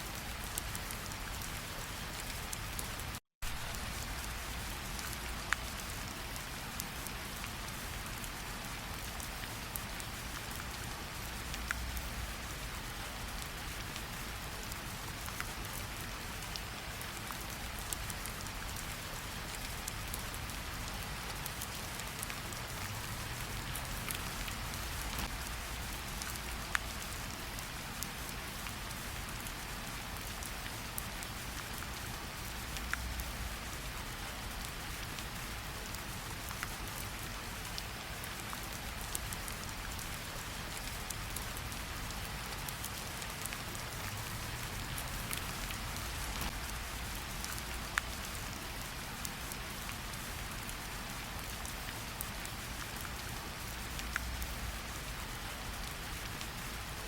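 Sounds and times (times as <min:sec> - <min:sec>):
rain on leaves and water: 0:00.0 - 0:57.0.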